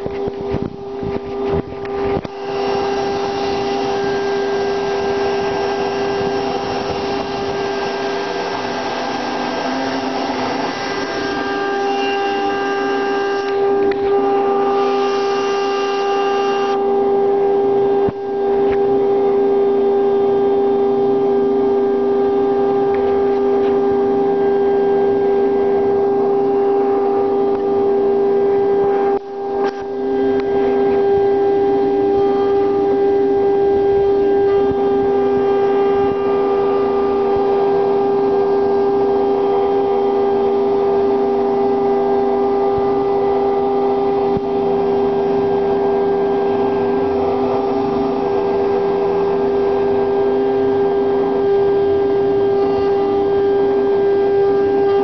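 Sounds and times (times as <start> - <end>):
router spindle whine: 0.0 - 55.0.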